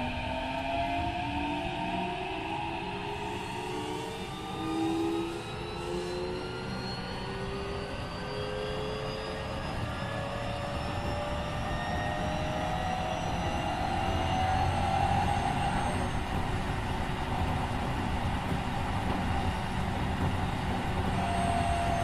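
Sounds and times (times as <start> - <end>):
inverter and traction motor whine: 0.0 - 22.0
wheels rumbling on track: 2.5 - 22.0.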